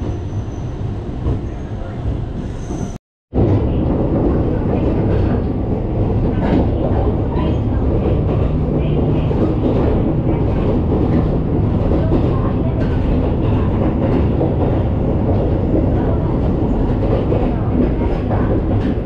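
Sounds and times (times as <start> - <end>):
diesel railcar engine rumble: 0.0 - 19.0
train wheels on track: 0.0 - 19.0.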